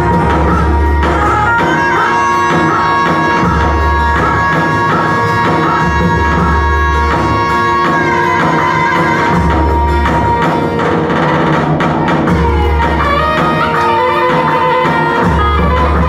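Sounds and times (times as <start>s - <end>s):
keyboard melody: 0.0s - 16.0s
steady drum rhythm: 0.0s - 16.0s.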